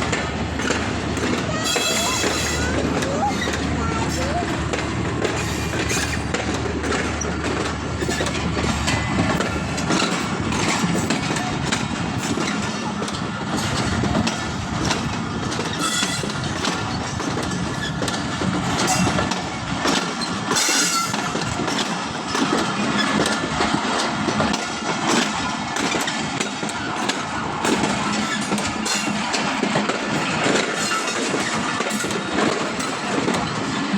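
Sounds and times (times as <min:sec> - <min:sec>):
train wheels clattering on rails: 0:00.0 - 0:33.9.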